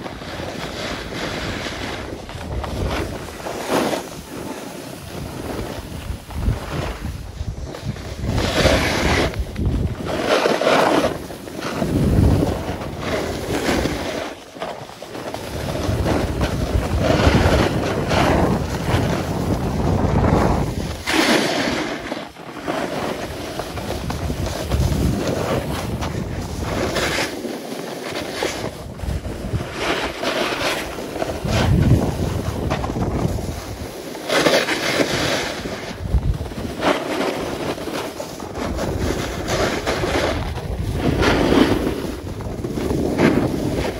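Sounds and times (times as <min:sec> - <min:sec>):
wind buffeting microphone: 0:00.0 - 0:14.3, 0:15.2 - 0:22.1, 0:22.9 - 0:27.3, 0:28.4 - 0:34.0, 0:34.8 - 0:43.9
skis scraping on snow: 0:00.0 - 0:43.9.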